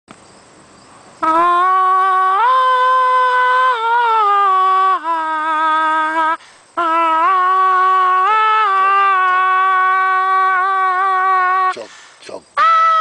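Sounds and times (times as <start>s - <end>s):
person humming: 1.2s - 11.9s, 12.6s - 13.0s.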